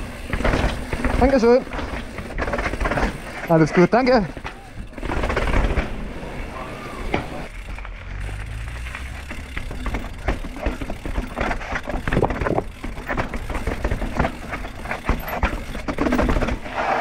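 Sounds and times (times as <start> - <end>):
bike rattling down stone steps: 0.0 - 17.0.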